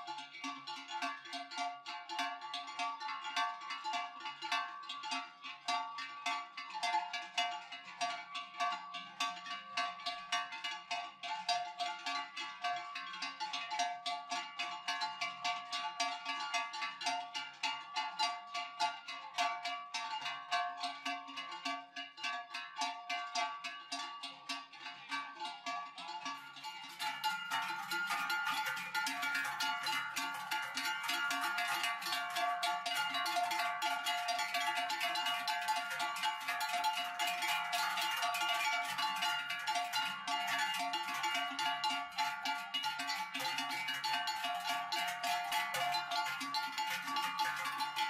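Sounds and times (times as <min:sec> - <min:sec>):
cowbells clanging: 0:00.0 - 0:48.0.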